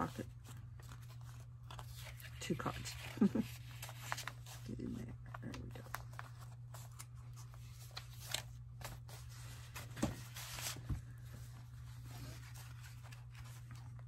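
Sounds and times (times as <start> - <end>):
paper cards rustling and sliding: 0.0 - 14.0.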